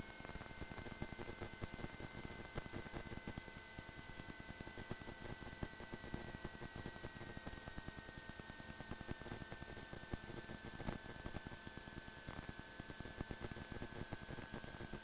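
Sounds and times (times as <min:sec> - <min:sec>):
static hiss and crackle: 0:00.0 - 0:15.0.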